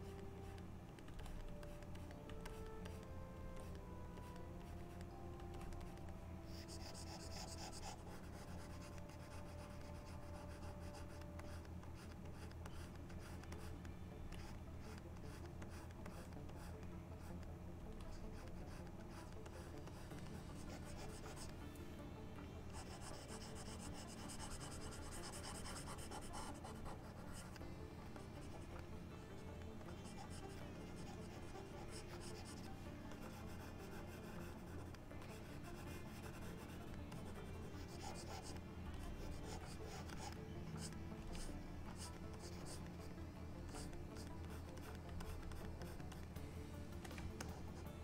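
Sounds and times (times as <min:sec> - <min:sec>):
low steady hum: 0:00.0 - 0:48.0
stylus scratching on tablet: 0:00.0 - 0:48.0.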